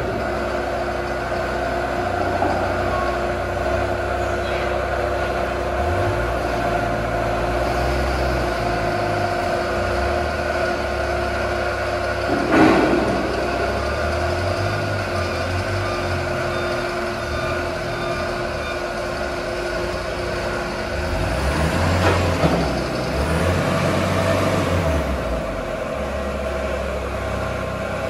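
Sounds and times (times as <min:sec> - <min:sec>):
forklift engine humming: 0:00.0 - 0:28.0.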